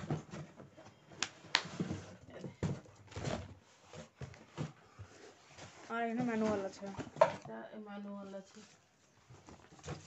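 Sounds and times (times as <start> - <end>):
cardboard rustling and scraping: 0.0 - 7.4, 8.3 - 10.0.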